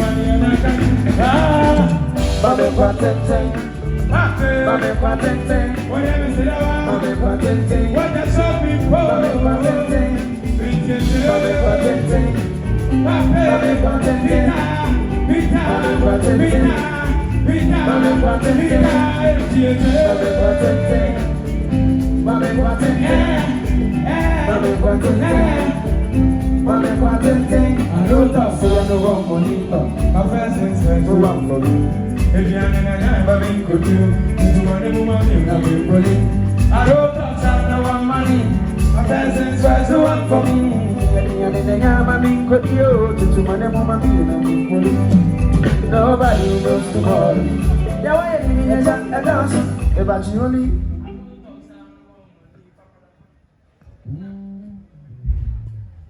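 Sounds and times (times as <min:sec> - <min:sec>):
live band playing: 0:00.0 - 0:51.4.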